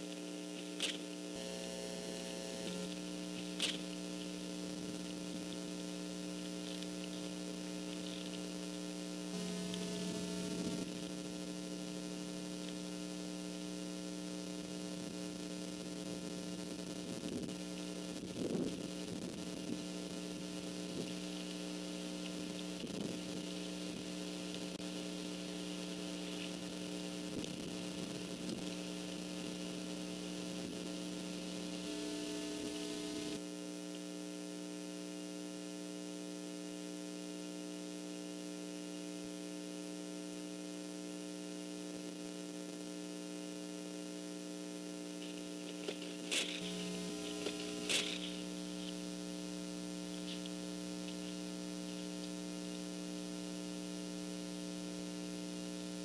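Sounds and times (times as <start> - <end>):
electrical hum: 0.0 - 34.8, 37.9 - 56.0.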